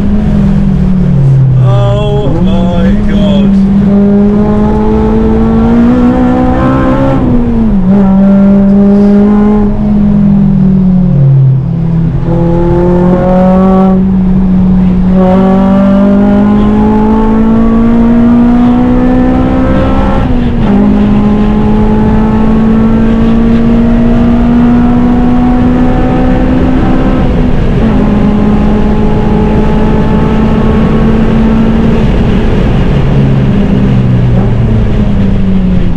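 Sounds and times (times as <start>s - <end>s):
car engine revving hard: 0.0s - 35.2s.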